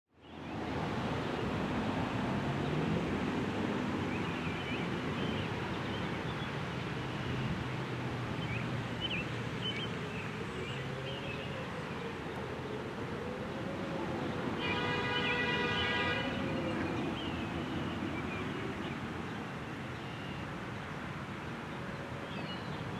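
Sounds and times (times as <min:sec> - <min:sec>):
distant traffic: 0:00.2 - 0:22.9.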